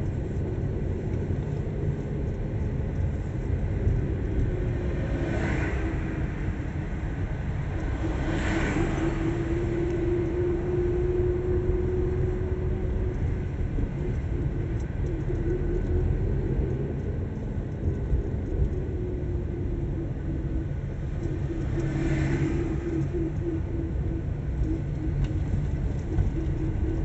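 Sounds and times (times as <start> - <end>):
car engine and tyres rumbling: 0.0 - 27.0.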